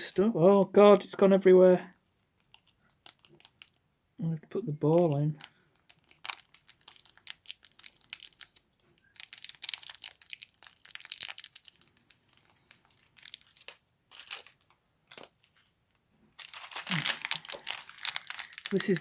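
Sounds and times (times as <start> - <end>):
plastic packets crinkling: 2.0 - 3.9, 4.9 - 19.0.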